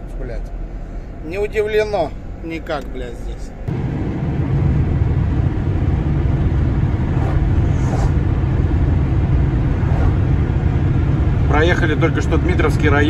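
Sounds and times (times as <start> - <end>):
van engine and tyres rumbling: 0.0 - 13.0.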